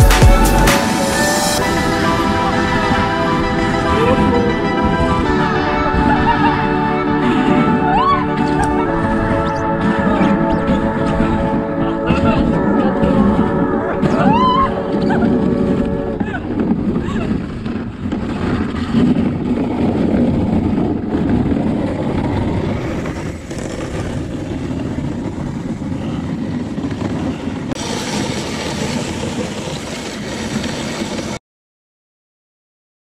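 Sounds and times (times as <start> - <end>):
wind on microphone: 0.8 - 31.4
sled runners scraping over snow: 1.2 - 31.4.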